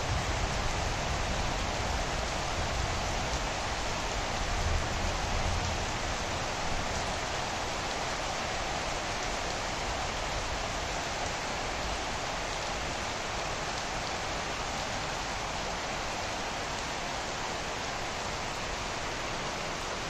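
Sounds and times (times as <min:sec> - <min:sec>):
rain on foliage: 0:00.0 - 0:20.0.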